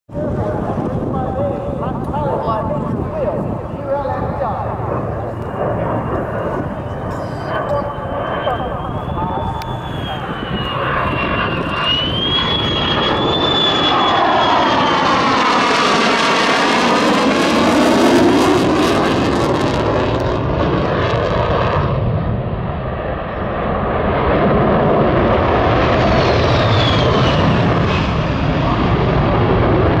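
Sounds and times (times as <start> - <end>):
high jet whine falling in pitch: 0.1 - 30.0
jet engine flyby with afterburner: 0.1 - 30.0.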